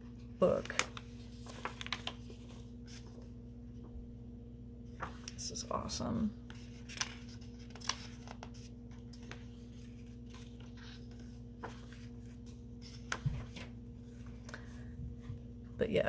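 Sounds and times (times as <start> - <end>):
steady low hum: 0.0 - 16.0
book pages turning: 0.2 - 3.4, 4.9 - 14.7.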